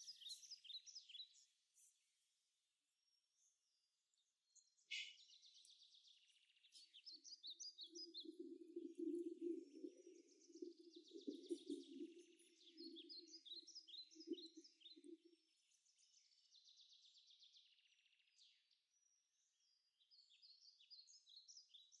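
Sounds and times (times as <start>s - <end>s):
faint birdsong: 0.0s - 22.0s.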